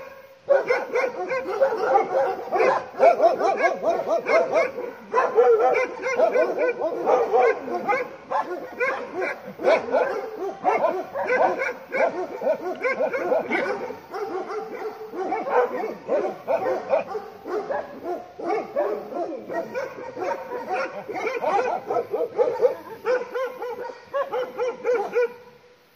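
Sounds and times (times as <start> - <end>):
dogs barking: 0.0 - 25.6.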